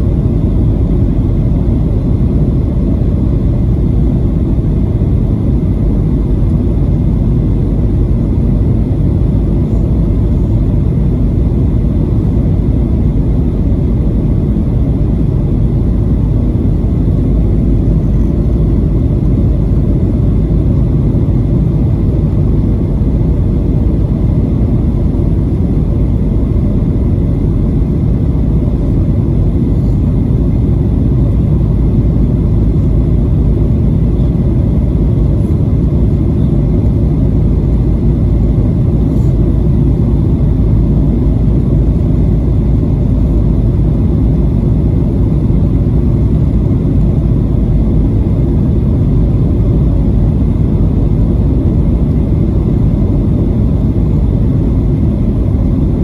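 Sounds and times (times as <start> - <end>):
deep engine rumble: 0.0 - 56.0.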